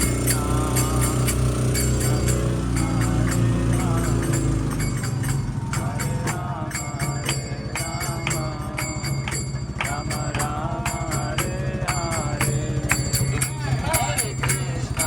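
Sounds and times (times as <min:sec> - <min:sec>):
devotional chant singing: 0:00.0 - 0:15.0
metal hand cymbals ringing: 0:00.0 - 0:15.0.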